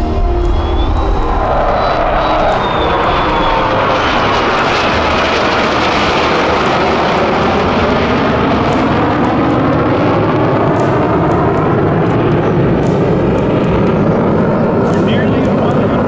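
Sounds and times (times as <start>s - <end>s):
faint falling whine: 0.0s - 16.0s
loud jet engine noise: 0.0s - 16.0s.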